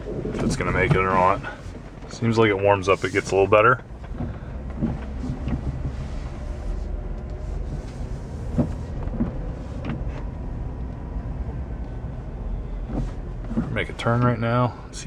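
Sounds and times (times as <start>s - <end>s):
engine rumble and road noise: 0.0s - 15.0s.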